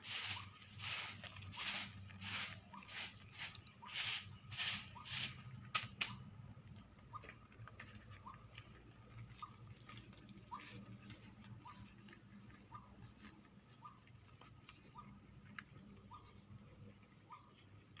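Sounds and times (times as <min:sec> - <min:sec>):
rabbits munching leafy greens: 0:00.0 - 0:18.0.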